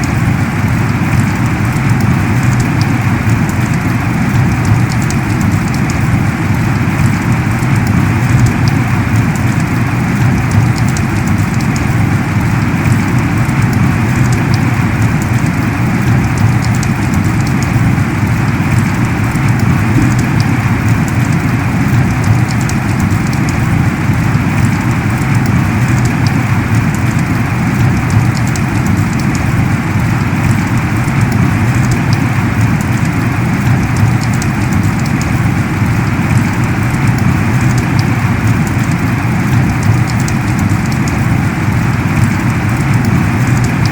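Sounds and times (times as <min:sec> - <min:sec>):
heavy rain pouring: 0:00.0 - 0:43.9
raindrop ticks: 0:00.0 - 0:43.9.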